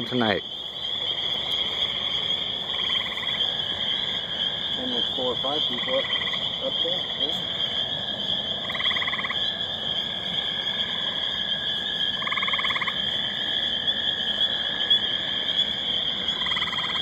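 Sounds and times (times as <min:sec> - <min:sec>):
spring peepers peeping: 0:00.0 - 0:17.0
tree frog pulsed trill: 0:00.0 - 0:17.0.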